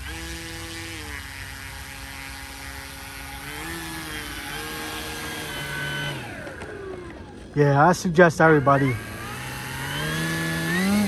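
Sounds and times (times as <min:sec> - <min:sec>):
model airplane motor whine: 0:00.0 - 0:11.0.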